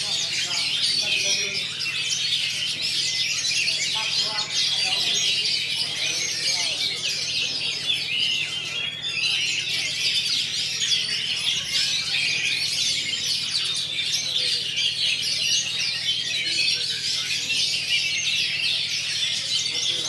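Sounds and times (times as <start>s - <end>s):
songbirds chirping and whistling: 0.0s - 20.0s.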